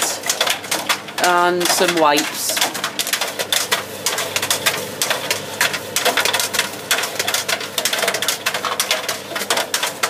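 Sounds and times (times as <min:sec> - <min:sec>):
items clattering inside dryer: 0:00.0 - 0:10.0
tumble dryer drum turning: 0:00.0 - 0:10.0.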